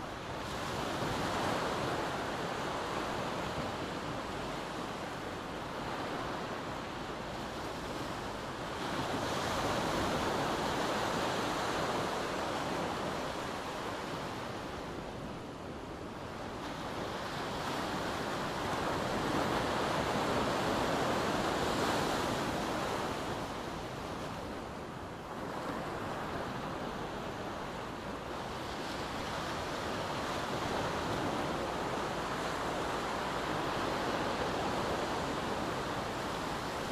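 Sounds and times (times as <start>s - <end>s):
surf washing on beach: 0.0s - 36.9s.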